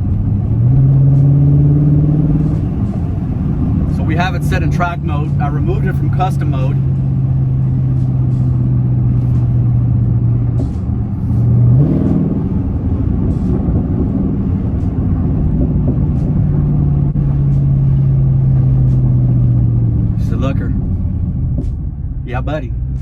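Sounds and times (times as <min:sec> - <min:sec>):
car exhaust droning: 0:00.0 - 0:23.0.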